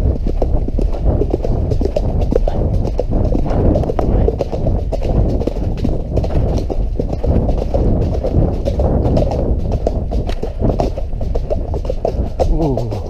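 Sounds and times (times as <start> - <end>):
horse hoofbeats on dirt: 0.0 - 13.0
wind buffeting microphone: 0.0 - 13.0.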